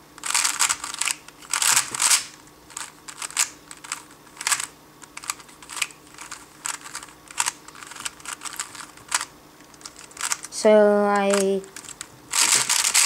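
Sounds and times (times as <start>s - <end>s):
plastic puzzle cube clicking: 0.2s - 10.5s, 11.2s - 13.0s.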